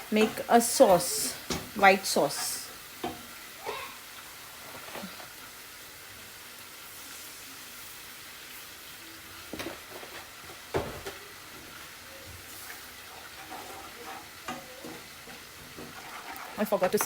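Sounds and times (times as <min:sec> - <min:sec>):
butter sizzling in a pan: 0:00.0 - 0:17.0.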